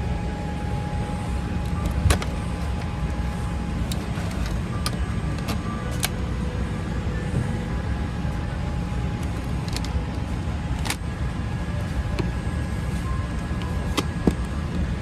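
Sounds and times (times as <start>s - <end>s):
cabin air conditioning rumble: 0.0s - 15.0s
faint steady hum: 0.0s - 15.0s.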